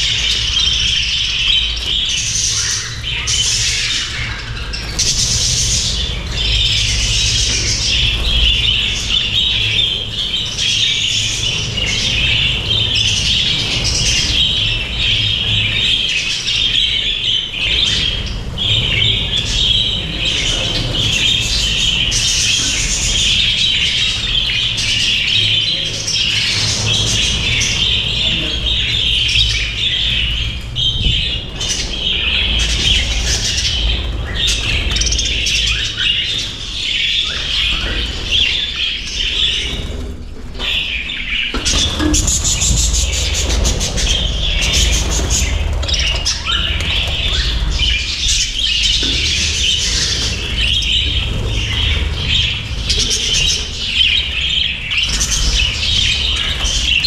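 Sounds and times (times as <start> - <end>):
budgerigars chattering and warbling: 0.0 - 57.0.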